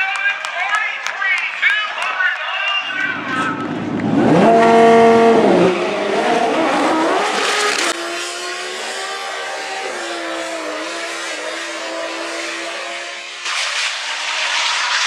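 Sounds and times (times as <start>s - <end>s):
car engine at full throttle: 2.9s - 15.0s.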